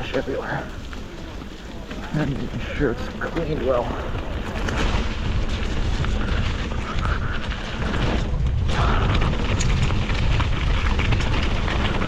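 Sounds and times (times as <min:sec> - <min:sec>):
bike rattles and clicks: 0:00.0 - 0:12.0
tyre noise on dirt: 0:00.0 - 0:12.0
wind rumble on microphone: 0:00.0 - 0:12.0.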